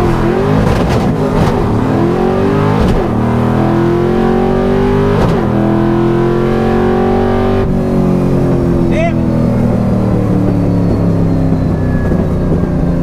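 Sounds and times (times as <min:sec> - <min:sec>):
car engine accelerating through gears: 0:00.0 - 0:13.0.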